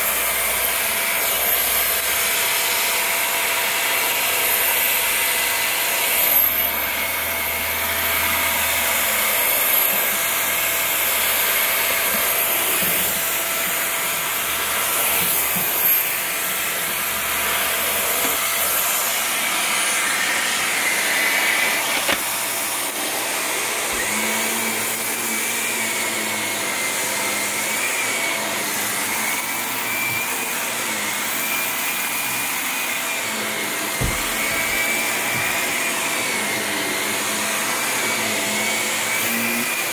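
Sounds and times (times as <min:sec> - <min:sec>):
vacuum cleaner running on carpet: 0:00.0 - 0:39.9.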